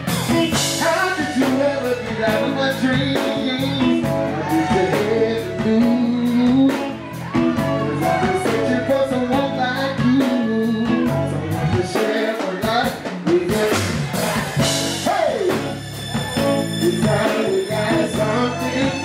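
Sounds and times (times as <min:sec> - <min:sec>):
drums: 0:00.0 - 0:19.0
man singing: 0:00.0 - 0:19.0.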